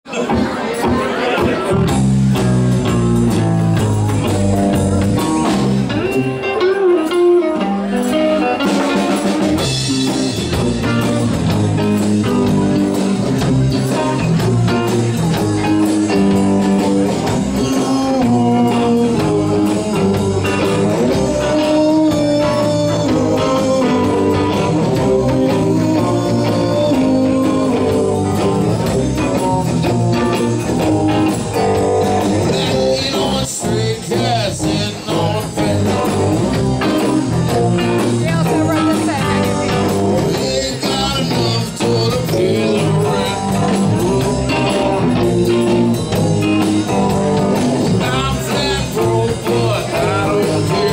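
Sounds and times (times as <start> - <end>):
blues guitar: 0.1 - 50.9
steady bass line: 1.6 - 6.5, 7.9 - 50.9.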